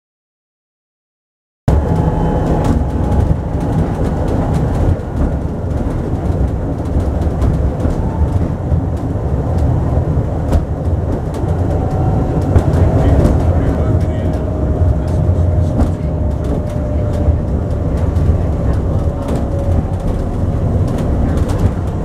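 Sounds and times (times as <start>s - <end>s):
railcar engine drone: 1.7s - 22.0s
wheels clicking over track: 1.7s - 22.0s.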